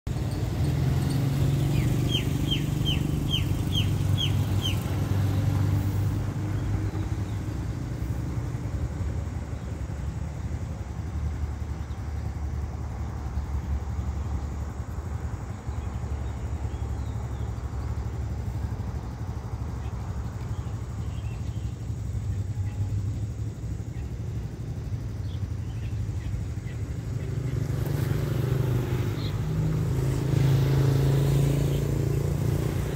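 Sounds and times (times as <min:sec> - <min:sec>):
bird chirping: 0:00.1 - 0:08.2, 0:13.0 - 0:32.9.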